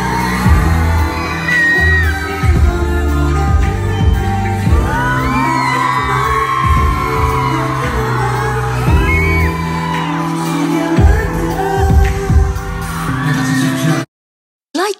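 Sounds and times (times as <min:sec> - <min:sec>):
fans screaming and whooping: 0:00.0 - 0:14.0
group singing into microphones: 0:00.0 - 0:14.0
pop music with heavy bass: 0:00.0 - 0:14.1.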